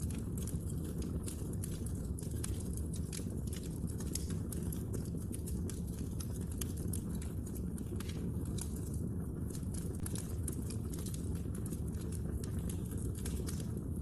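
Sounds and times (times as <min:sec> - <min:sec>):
burning wood crackling and popping: 0:00.0 - 0:14.0
fire flames rumbling: 0:00.0 - 0:14.0.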